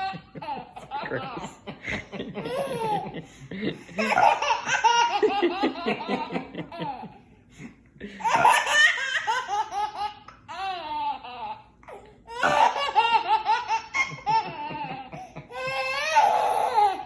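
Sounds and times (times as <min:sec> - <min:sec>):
baby laughing: 0:00.0 - 0:03.2, 0:04.0 - 0:07.2, 0:08.2 - 0:17.0.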